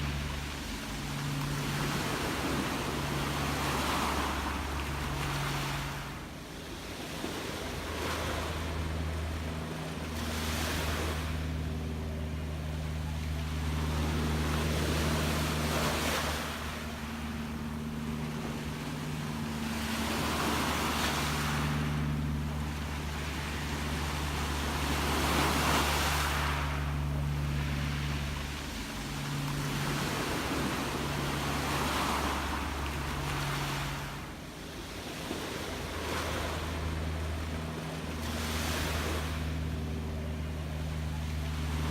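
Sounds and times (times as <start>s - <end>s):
low drone: 0.0s - 41.9s
sea waves washing in: 0.0s - 41.9s.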